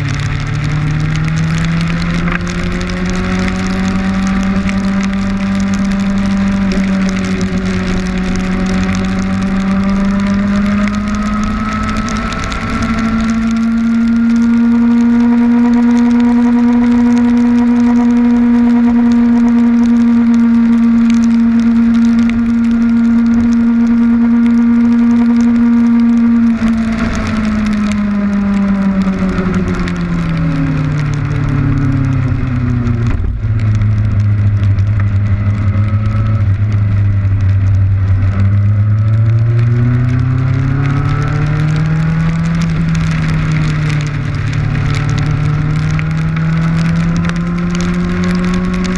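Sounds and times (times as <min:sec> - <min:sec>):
motorcycle engine at speed: 0:00.0 - 0:48.9
wind and rain hitting camera: 0:00.0 - 0:48.9.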